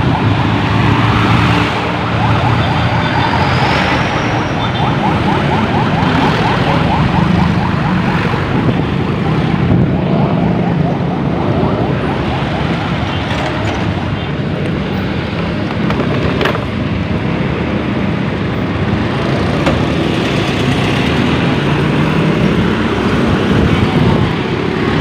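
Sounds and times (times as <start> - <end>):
motorbikes passing: 0.0 - 25.0
trucks passing: 0.0 - 25.0
wind noise: 0.0 - 25.0.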